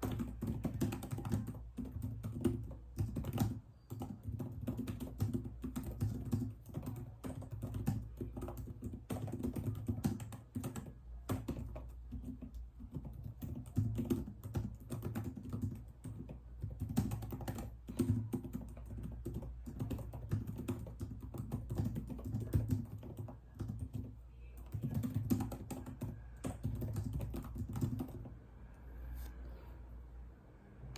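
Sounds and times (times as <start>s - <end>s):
computer keyboard typing: 0.0s - 28.3s.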